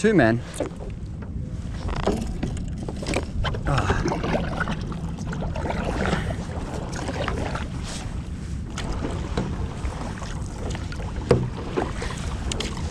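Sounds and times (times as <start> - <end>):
water lapping at a board: 0.2 - 12.9.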